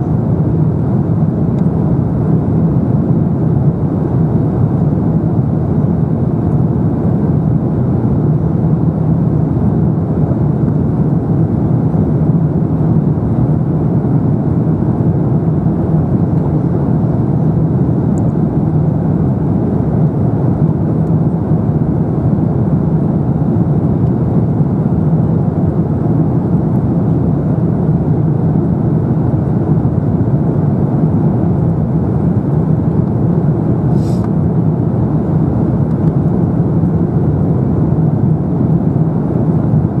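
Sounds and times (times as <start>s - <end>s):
low jet engine hum: 0.0s - 40.0s
rush of airflow: 0.0s - 40.0s.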